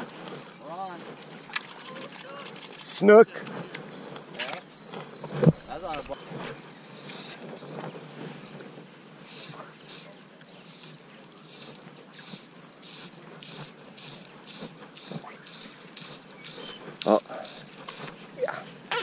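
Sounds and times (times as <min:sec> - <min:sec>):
insects buzzing: 0:00.0 - 0:19.0
pulsing insect chirp: 0:00.0 - 0:19.0.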